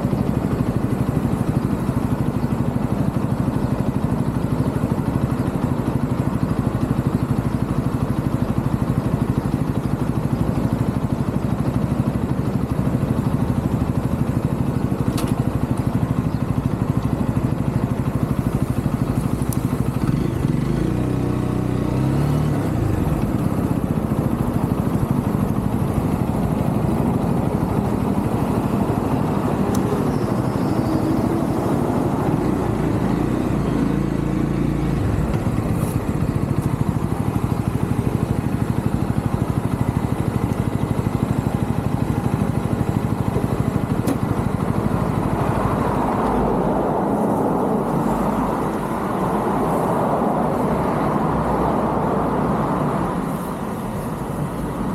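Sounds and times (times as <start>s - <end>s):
motorcycle engine running: 0.0s - 54.9s
road noise: 0.0s - 54.9s.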